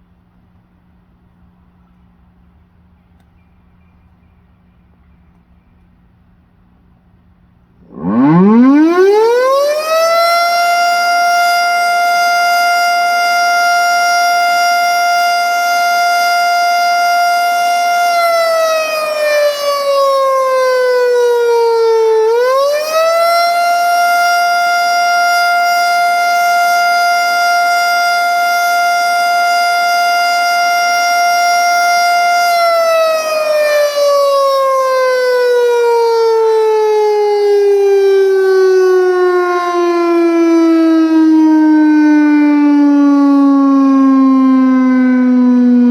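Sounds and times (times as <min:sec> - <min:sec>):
warning siren wailing: 0:07.8 - 0:45.9.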